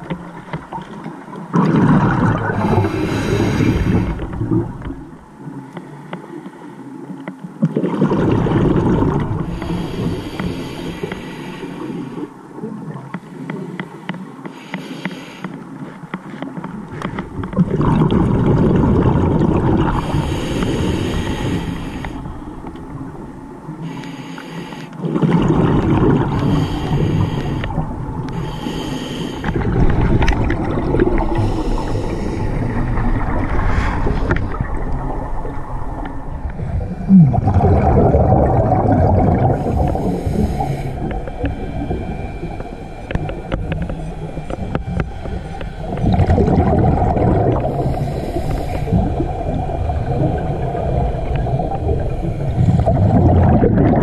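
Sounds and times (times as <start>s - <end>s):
gurgling exhaled bubbles underwater: 0.0s - 5.7s, 7.6s - 11.1s, 16.8s - 24.0s, 25.0s - 54.0s.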